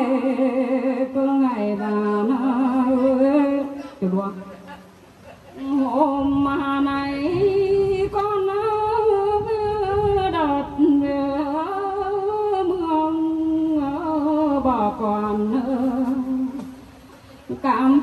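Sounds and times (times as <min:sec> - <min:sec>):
woman singing unaccompanied: 0:00.0 - 0:04.8, 0:05.5 - 0:18.0.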